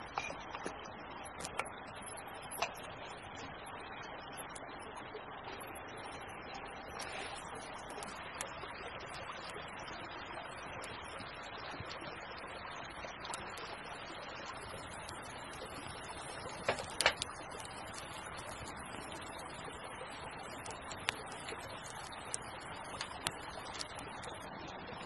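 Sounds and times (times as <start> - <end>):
campfire crackling and popping: 0.0 - 4.7, 5.5 - 25.0.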